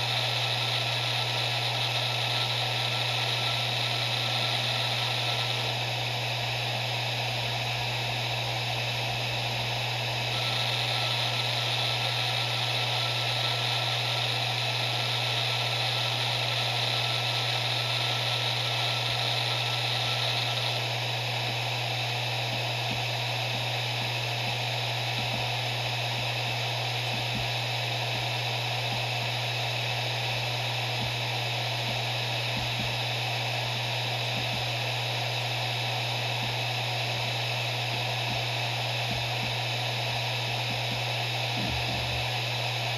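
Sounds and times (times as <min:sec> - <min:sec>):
hard drive whirring: 0:00.0 - 0:42.9
high whine and hiss: 0:00.0 - 0:42.9.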